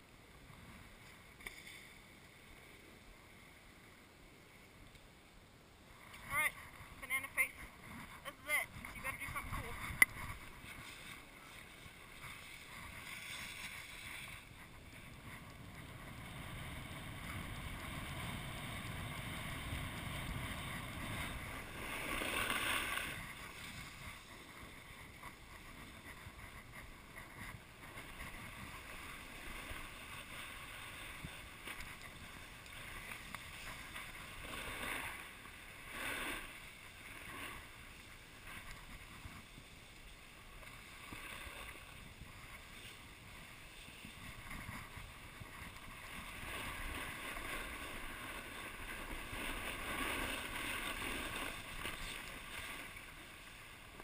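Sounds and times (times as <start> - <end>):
wind rumbling on microphone: 5.8 - 54.0
snowboard scraping packed snow: 6.7 - 54.0.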